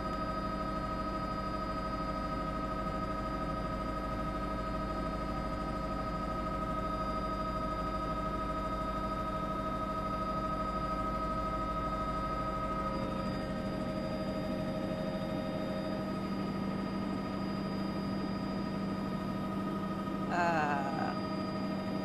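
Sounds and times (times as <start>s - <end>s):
helicopter cabin drone: 0.0s - 22.0s.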